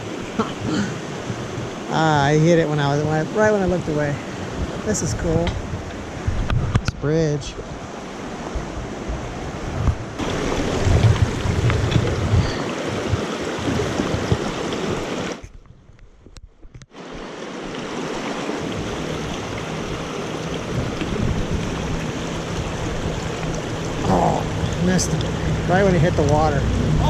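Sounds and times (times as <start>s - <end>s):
creek water rushing: 0.0s - 6.4s, 7.5s - 15.4s, 17.0s - 27.0s.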